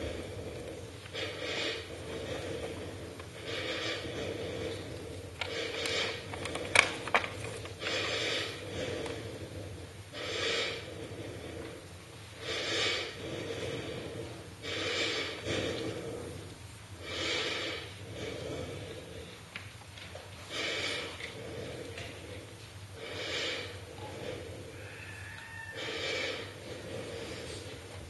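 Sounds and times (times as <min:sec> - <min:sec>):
person breathing heavily: 0:00.0 - 0:19.5, 0:20.4 - 0:28.0.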